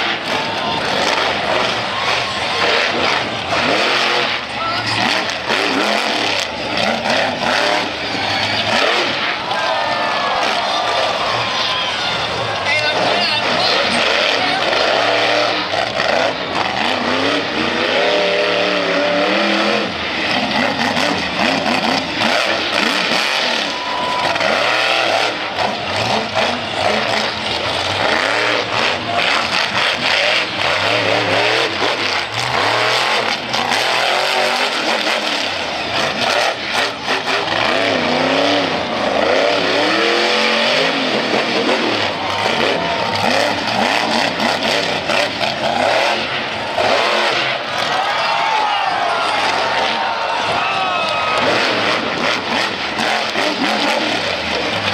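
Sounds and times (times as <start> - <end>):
truck engine revving: 0.0 - 54.9.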